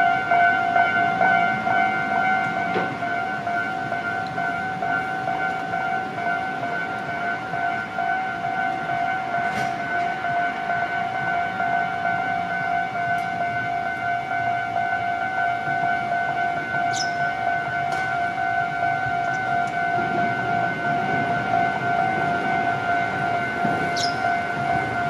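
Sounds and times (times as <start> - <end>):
level crossing warning alarm: 0.0 - 25.0.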